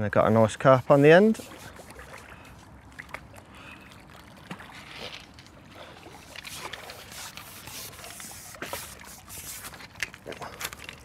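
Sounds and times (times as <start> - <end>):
water splashing and sloshing: 0.1 - 11.0.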